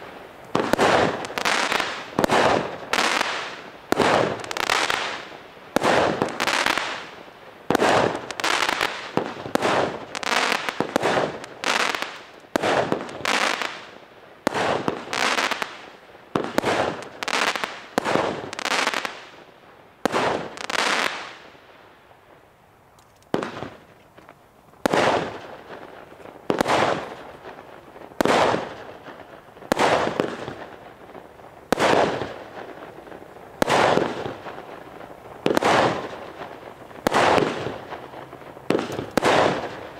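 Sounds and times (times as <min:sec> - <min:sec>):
firework aerial bursts: 0:00.0 - 0:19.4, 0:24.8 - 0:39.9.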